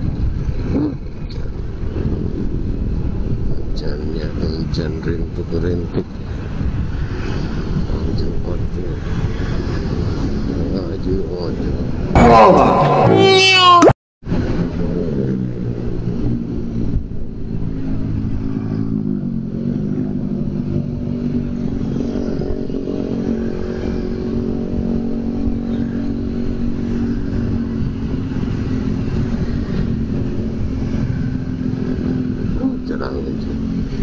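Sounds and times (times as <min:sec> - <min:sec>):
road noise: 0:00.0 - 0:34.0
wind noise: 0:00.0 - 0:34.0.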